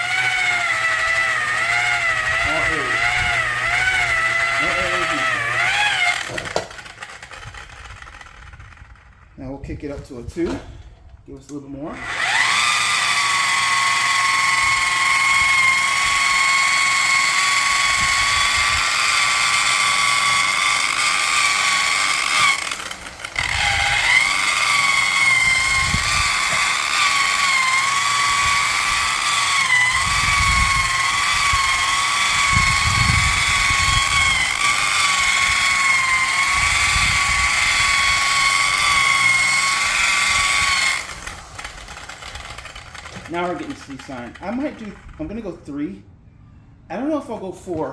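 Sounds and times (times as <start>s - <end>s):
electric polisher whining: 0.0s - 9.3s, 11.9s - 45.1s.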